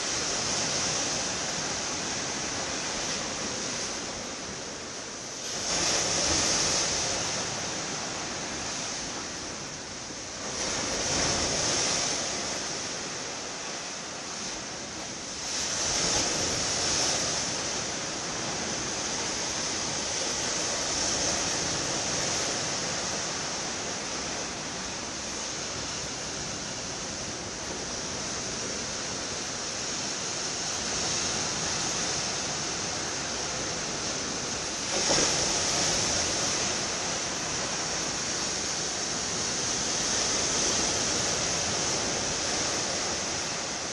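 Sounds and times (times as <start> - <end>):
sea waves breaking: 0.0 - 43.9.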